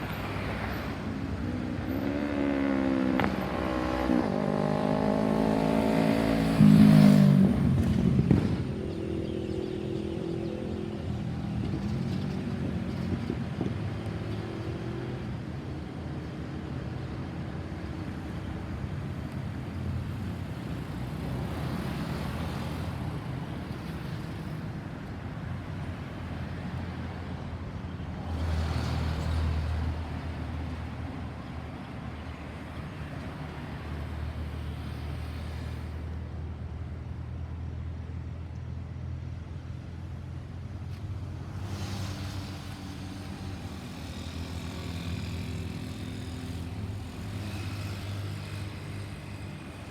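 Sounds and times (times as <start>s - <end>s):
vehicles passing: 0.0s - 49.9s.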